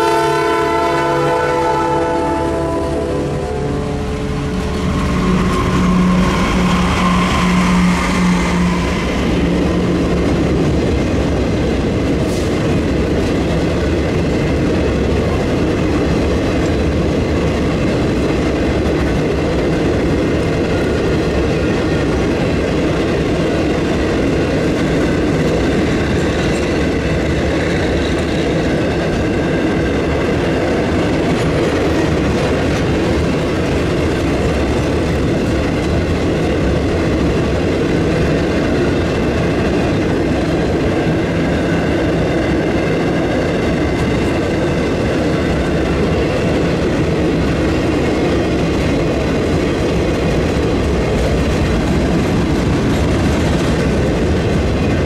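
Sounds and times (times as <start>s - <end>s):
locomotive engine drone: 0.0s - 55.0s
train wheels clattering on rails: 4.2s - 55.0s.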